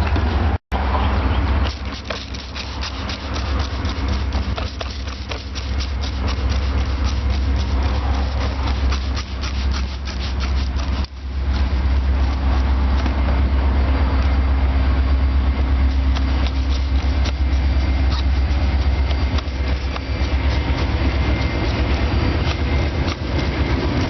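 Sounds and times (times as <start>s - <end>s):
hose water spraying: 1.6s - 13.2s, 15.8s - 24.0s.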